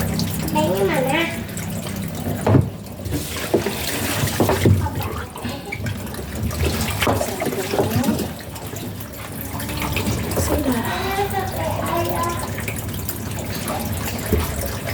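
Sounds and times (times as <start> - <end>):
water running and splashing: 0.0 - 14.9.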